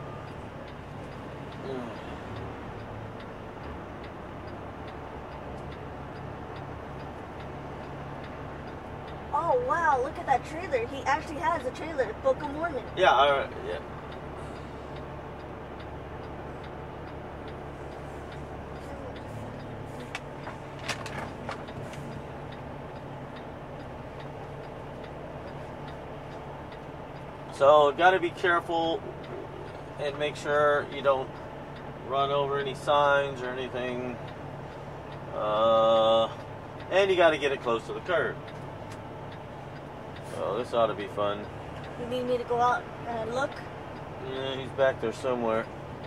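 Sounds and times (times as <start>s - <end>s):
diesel engine idling: 0.0s - 46.0s
flasher relay ticking: 0.0s - 46.0s.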